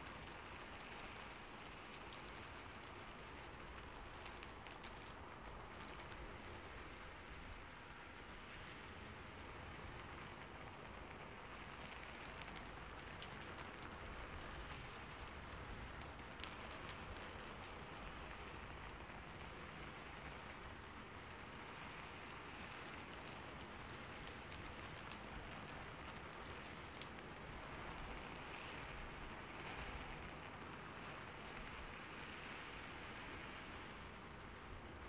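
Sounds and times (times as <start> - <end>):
light ticks: 0.0 - 7.8, 11.6 - 35.0
faint steady hiss: 0.0 - 35.0.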